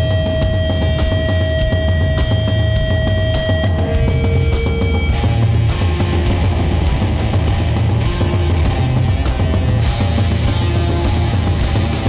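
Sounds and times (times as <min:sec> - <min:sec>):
drum and cymbal hits: 0:00.0 - 0:12.0
heavy rock band playing: 0:00.0 - 0:12.0.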